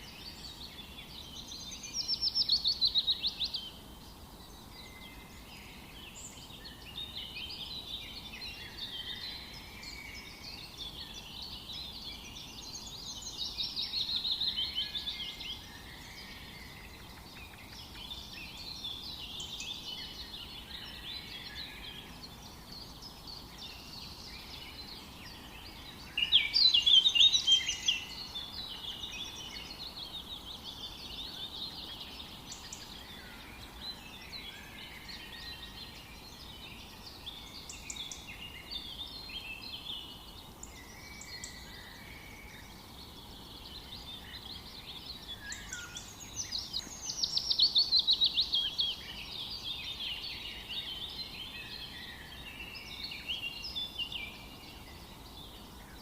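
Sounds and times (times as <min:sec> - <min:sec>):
faint steady background hiss: 0:00.0 - 0:56.0
forest birds chirping and singing: 0:00.0 - 0:56.0.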